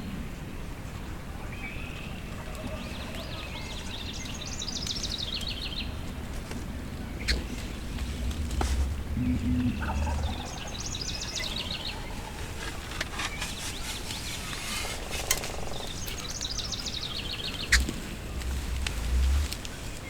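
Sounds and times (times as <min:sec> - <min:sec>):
low rumbling background noise: 0:00.0 - 0:20.0
songbird singing: 0:00.0 - 0:20.0.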